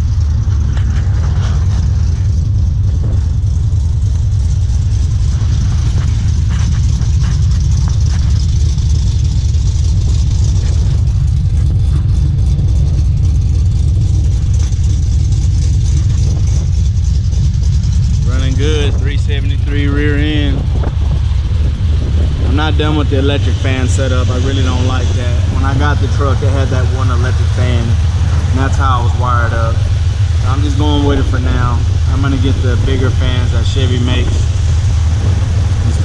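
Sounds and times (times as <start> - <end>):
vee eight engine running steadily: 0.0 - 36.0.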